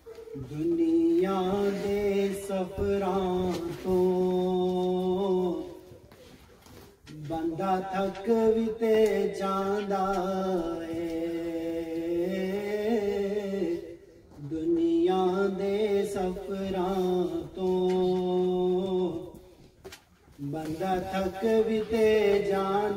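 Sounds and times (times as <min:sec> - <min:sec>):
man chanting unaccompanied: 0:00.2 - 0:05.9, 0:07.1 - 0:19.4, 0:20.4 - 0:22.9.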